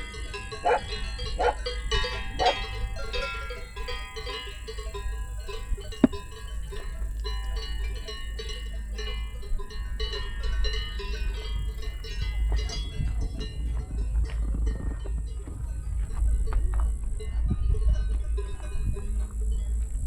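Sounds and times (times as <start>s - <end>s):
cowbells clanking: 0.0s - 20.0s
wind on microphone: 0.0s - 20.0s.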